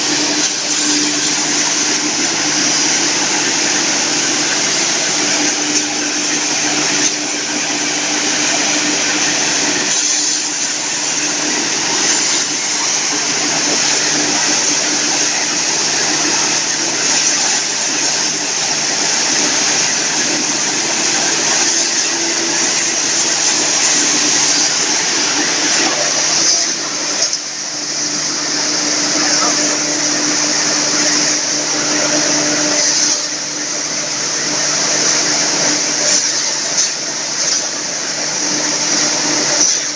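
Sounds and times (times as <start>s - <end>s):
hammer mill rushing noise: 0.0s - 39.9s
machine hum: 0.0s - 39.9s.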